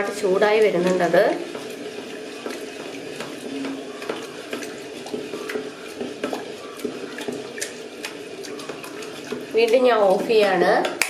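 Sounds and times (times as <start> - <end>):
ladle scraping inside kettle: 0.0 - 11.0.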